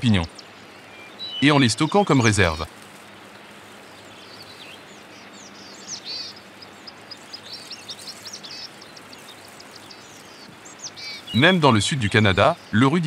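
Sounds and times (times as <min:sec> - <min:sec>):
faint steady hiss: 0:00.0 - 0:13.0
small birds chirping: 0:00.0 - 0:13.0.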